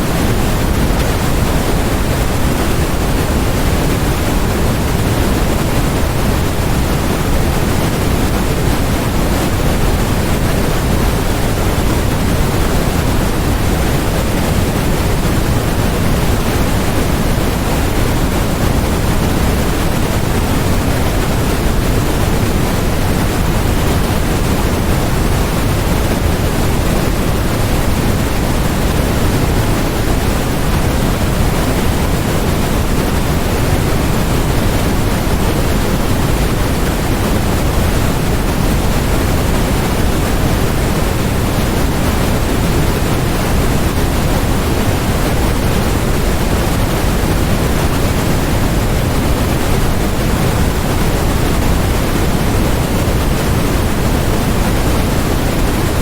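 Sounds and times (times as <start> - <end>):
steady generated noise: 0.0 - 56.0.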